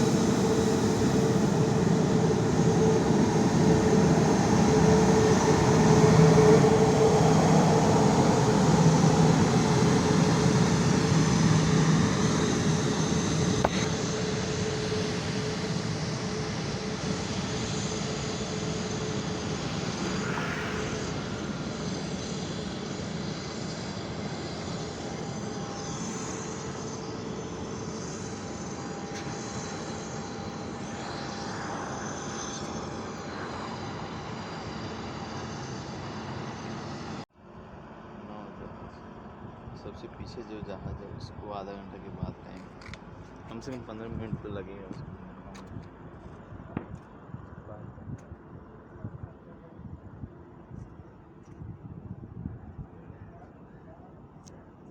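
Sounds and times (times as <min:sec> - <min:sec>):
steady high whine: 0:00.0 - 0:51.6
jet airliner engines: 0:00.0 - 0:54.9.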